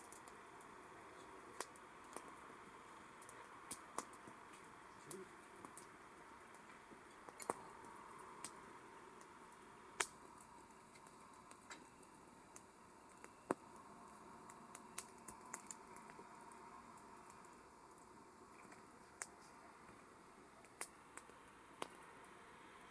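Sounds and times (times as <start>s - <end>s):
campfire crackling: 0.0s - 22.9s
faint steady hiss: 0.0s - 22.9s.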